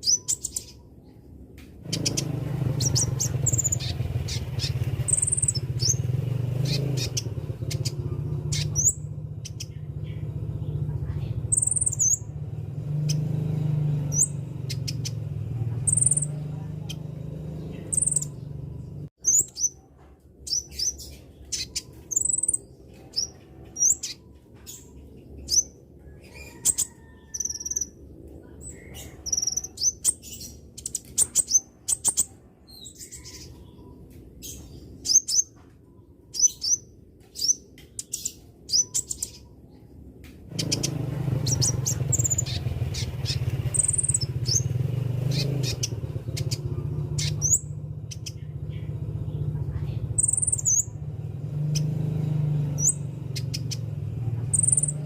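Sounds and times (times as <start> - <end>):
bird chirping high: 0.0 - 55.0.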